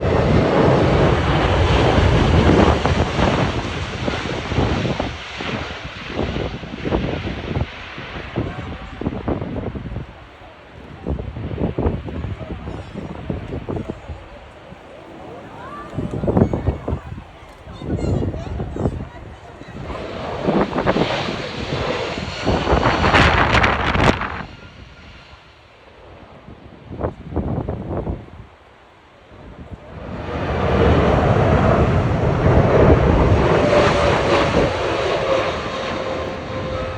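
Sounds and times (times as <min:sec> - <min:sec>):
wind buffeting microphone: 0:00.0 - 0:28.6, 0:29.3 - 0:36.9
jet engines rushing: 0:00.0 - 0:36.9.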